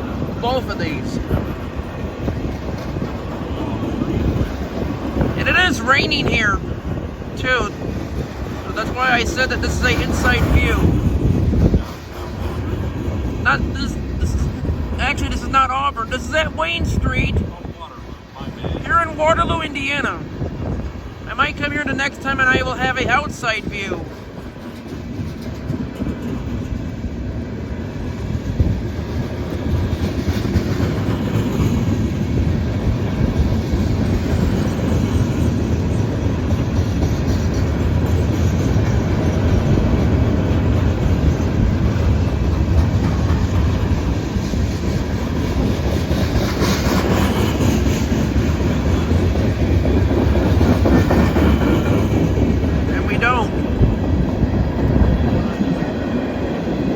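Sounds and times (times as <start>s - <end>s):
train wheels clattering over rails: 0.0s - 17.4s, 18.4s - 56.9s.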